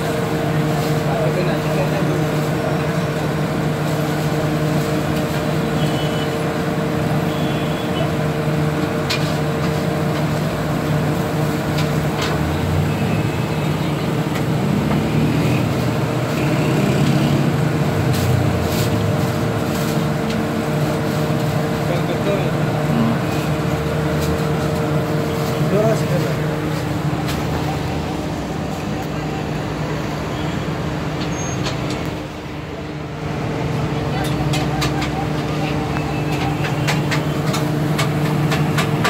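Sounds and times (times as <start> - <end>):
street traffic hum: 0.0 - 39.0.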